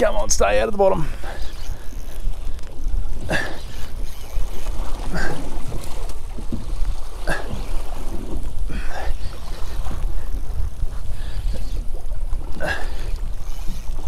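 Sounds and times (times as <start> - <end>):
water splashing against hull: 0.0 - 14.0
wind rumbling on microphone: 0.0 - 14.0.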